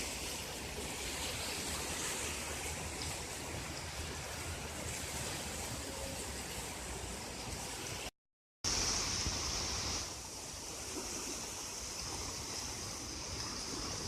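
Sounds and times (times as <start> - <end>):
sea waves washing against a pier: 0.0 - 8.1, 8.7 - 14.0.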